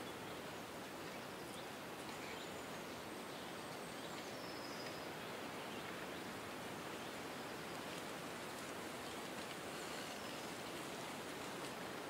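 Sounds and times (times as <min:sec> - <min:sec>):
wind rustling through trees: 0:00.0 - 0:12.0.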